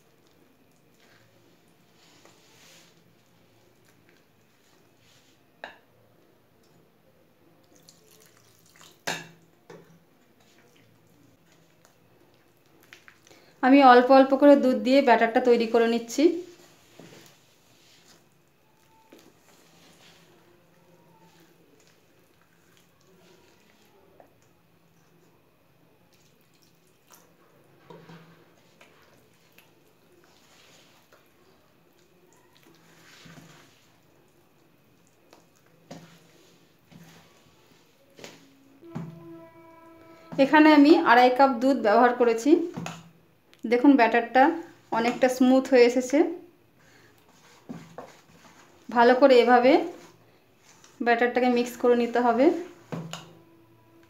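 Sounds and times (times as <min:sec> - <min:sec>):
wet batter mixing in bowl: 0:07.6 - 0:39.5, 0:40.3 - 0:53.5.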